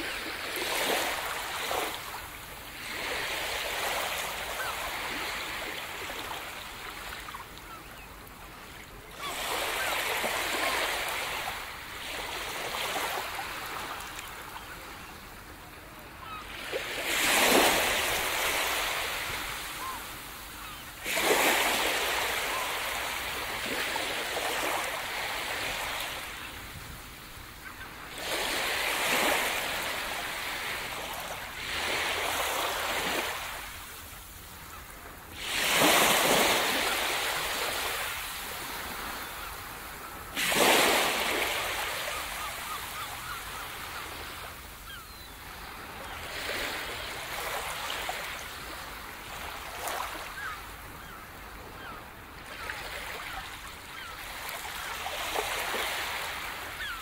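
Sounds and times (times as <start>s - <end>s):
small waves breaking on sand: 0.0s - 57.0s.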